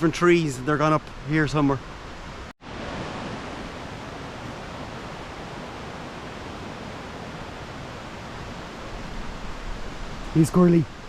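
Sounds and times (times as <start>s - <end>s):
waterfalls: 0.0s - 11.0s
fast-flowing river water: 1.5s - 11.0s.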